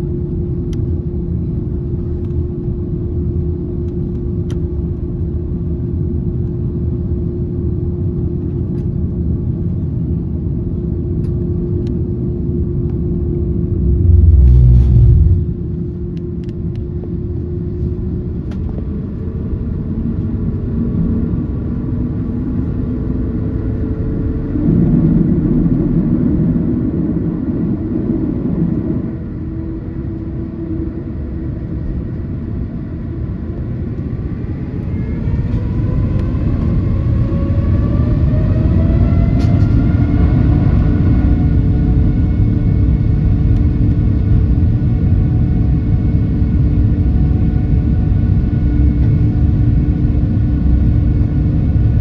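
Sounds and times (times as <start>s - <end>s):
aircraft cabin rumble: 0.0s - 37.4s, 39.0s - 52.0s
jet engine whine spooling up: 0.0s - 52.0s.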